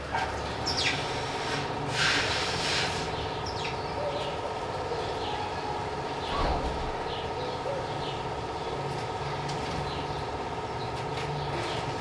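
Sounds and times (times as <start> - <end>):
steady background hum: 0.0 - 12.0
sparrows chirping: 0.4 - 1.4, 2.3 - 12.0.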